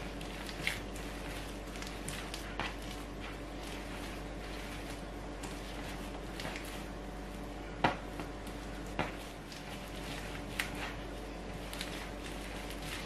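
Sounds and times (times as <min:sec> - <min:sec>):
hands kneading dough on wood: 0:00.0 - 0:13.0.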